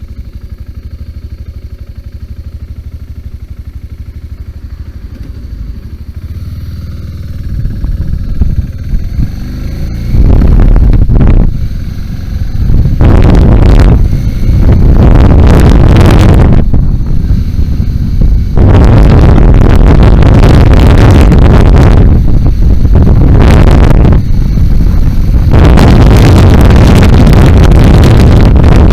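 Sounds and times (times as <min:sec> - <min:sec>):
motorcycle engine rumbling: 0:00.0 - 0:28.9.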